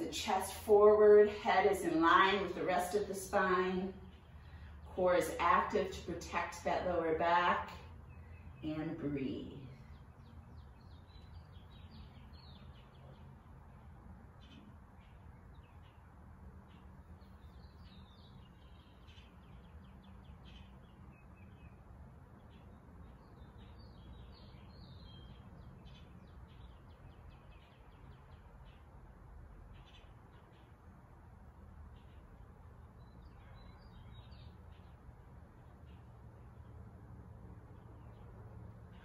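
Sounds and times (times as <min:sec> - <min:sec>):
faint birds chirping: 0:00.0 - 0:39.0
low steady hum: 0:00.0 - 0:39.0.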